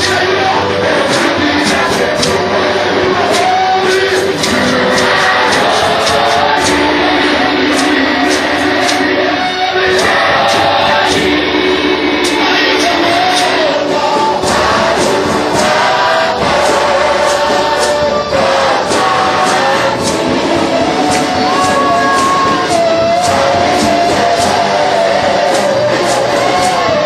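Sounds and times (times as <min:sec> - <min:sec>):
drums and cymbals: 0:00.0 - 0:27.0
gospel worship music: 0:00.0 - 0:27.0
guitar: 0:00.0 - 0:27.0
singers: 0:00.0 - 0:27.0.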